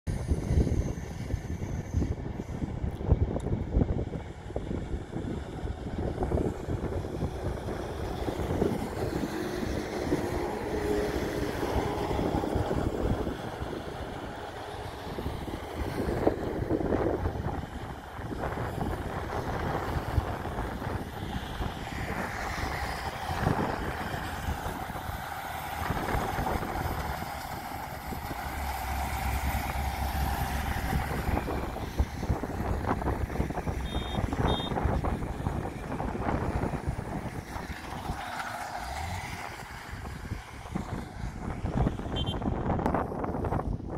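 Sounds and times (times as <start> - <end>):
truck engine and tyre rumble: 0.0 - 43.9.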